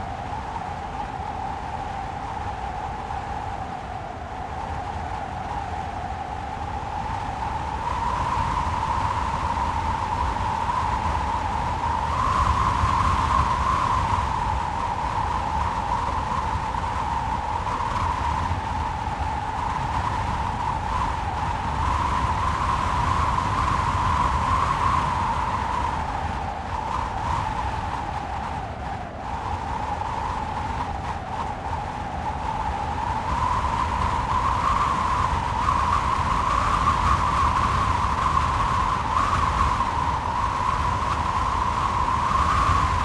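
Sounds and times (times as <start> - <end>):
wind howling: 0.5 - 43.0.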